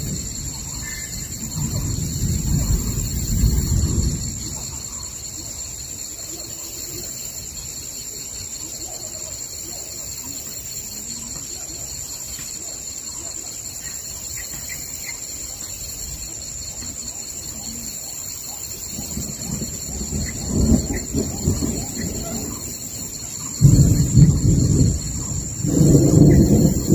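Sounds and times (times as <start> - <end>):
insect drone: 0.0 - 26.9
thunder rumbling: 0.0 - 26.9.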